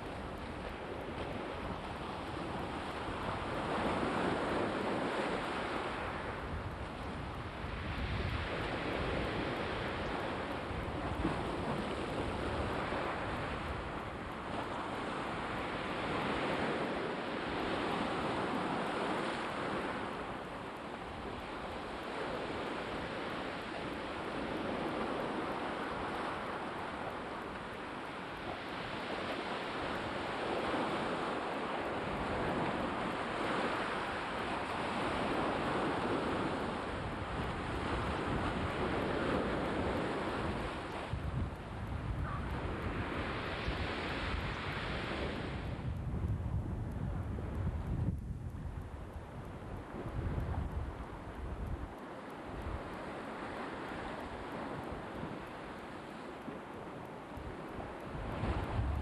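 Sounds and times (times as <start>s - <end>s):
waves washing onto shore: 0.0s - 59.0s.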